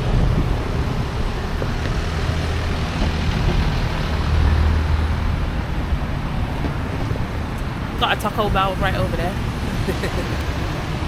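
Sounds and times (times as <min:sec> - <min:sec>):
road traffic passing: 0:00.0 - 0:11.0
vehicle passing close: 0:00.0 - 0:11.0.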